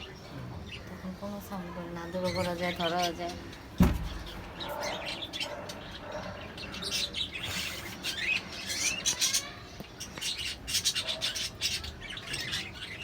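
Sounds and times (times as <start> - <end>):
parakeet chirping: 2.1 - 13.0.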